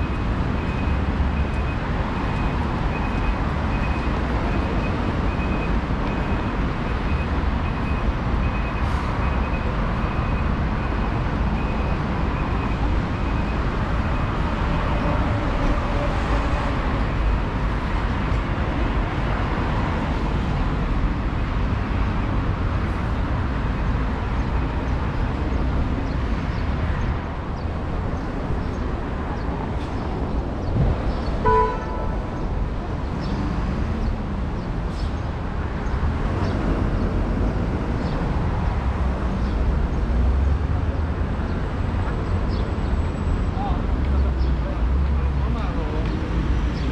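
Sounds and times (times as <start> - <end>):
traffic rumble: 0.0 - 46.9.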